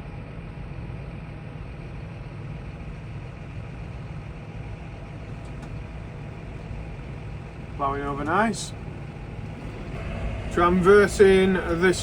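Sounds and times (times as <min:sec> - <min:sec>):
tractor diesel engine droning: 0:00.5 - 0:12.0.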